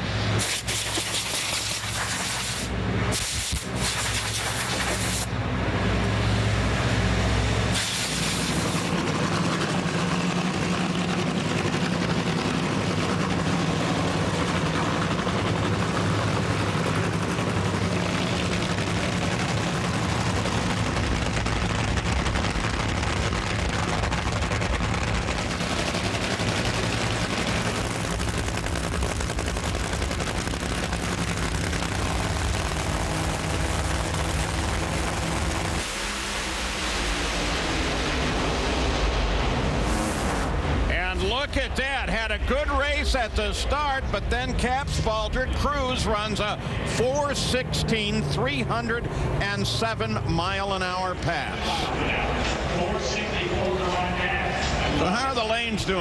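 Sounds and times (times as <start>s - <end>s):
drag racing engines running loud: 0.0s - 56.0s.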